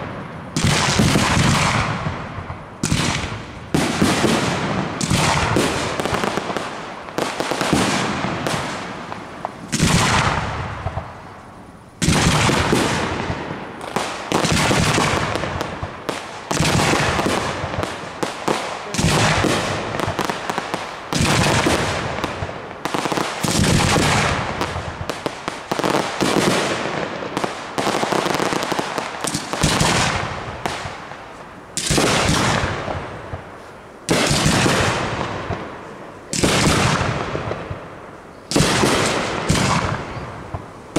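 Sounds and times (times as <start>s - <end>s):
firework shells bursting: 0.0s - 40.8s.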